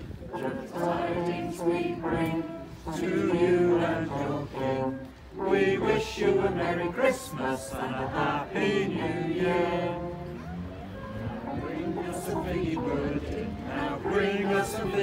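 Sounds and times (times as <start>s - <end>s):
choir singing a cappella: 0.0s - 15.0s.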